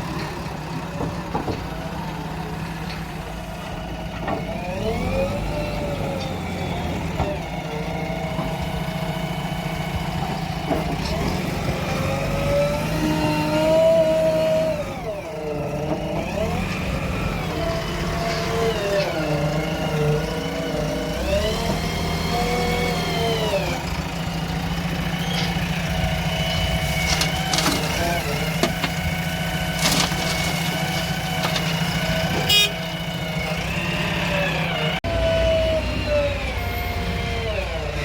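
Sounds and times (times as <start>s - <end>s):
diesel engine of heavy machinery: 0.0s - 38.0s.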